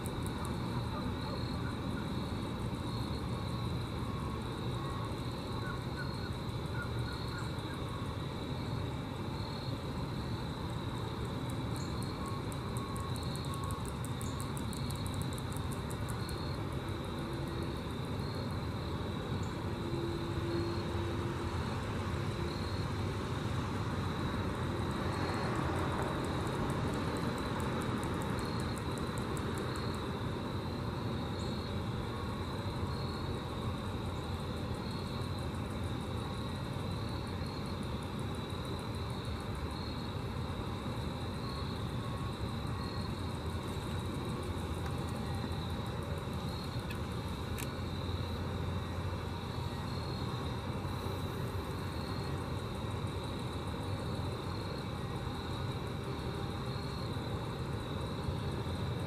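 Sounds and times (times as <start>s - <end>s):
insect-like chirring: 0.0s - 23.0s, 23.9s - 59.0s
grasshoppers stridulating: 0.0s - 59.0s.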